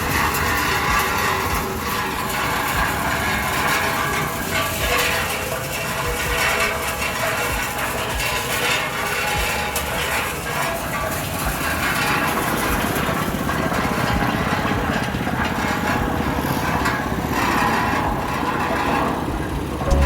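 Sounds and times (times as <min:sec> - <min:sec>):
small petrol engine running: 0:00.0 - 0:20.0.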